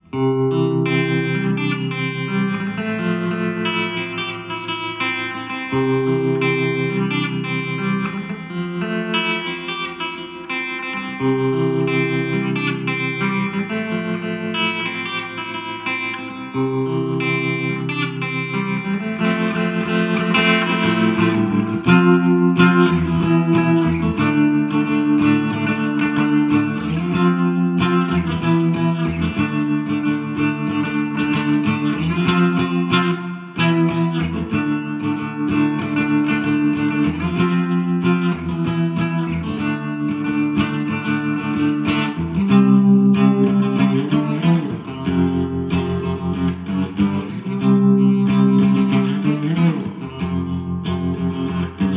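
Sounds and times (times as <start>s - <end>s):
electric guitar strummed chords: 0.0s - 51.9s.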